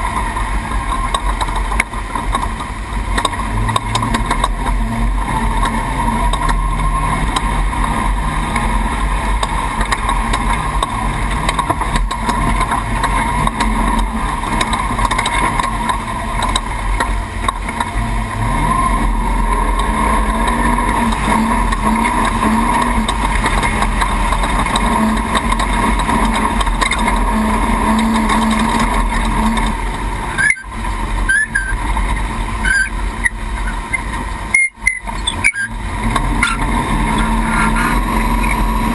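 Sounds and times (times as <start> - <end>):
race truck engine revving: 0.0 - 38.9.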